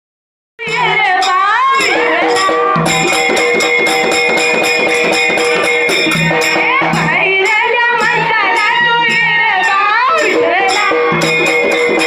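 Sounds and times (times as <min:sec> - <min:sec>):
jingling rattle beat: 0:00.6 - 0:12.0
steady held tone: 0:00.6 - 0:12.0.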